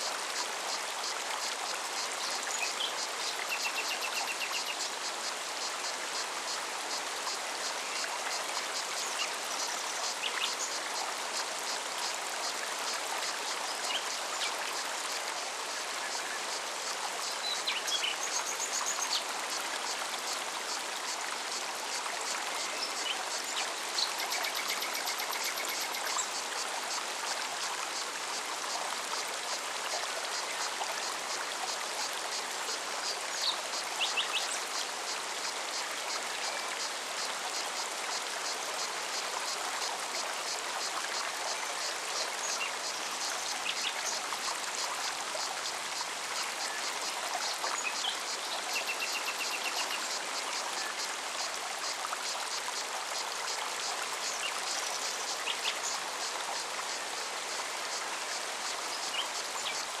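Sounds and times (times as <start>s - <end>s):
stream running: 0.0s - 60.0s.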